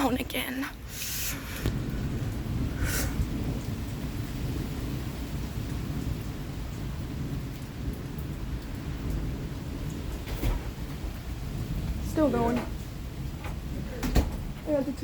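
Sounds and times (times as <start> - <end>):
faint raindrop ticks: 0.0 - 15.0
rain falling: 0.0 - 15.0
thunder rumbling: 0.0 - 15.0.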